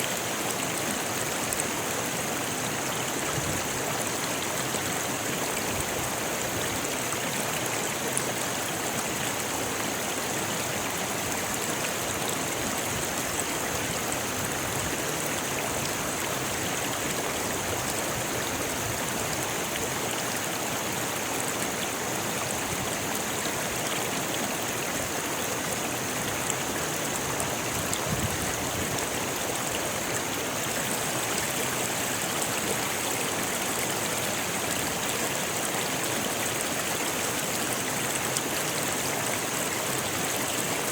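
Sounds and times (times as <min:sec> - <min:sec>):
river rushing over stones: 0:00.0 - 0:40.9.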